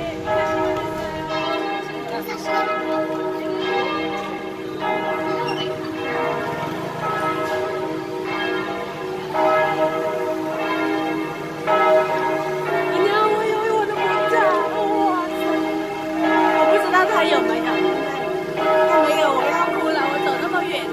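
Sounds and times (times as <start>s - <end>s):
church bells ringing: 0.0s - 20.9s.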